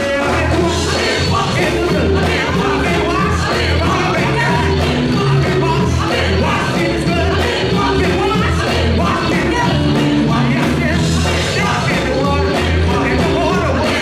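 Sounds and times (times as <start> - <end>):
backing vocalists singing: 0.0 - 14.0
gospel band playing: 0.0 - 14.0.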